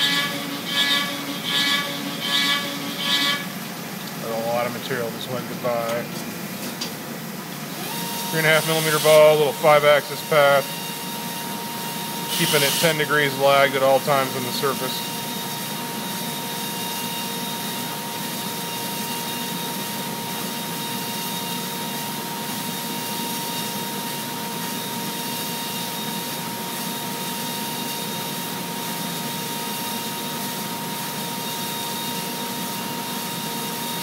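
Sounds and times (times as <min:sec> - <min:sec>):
milling machine high whine: 0:00.0 - 0:34.0.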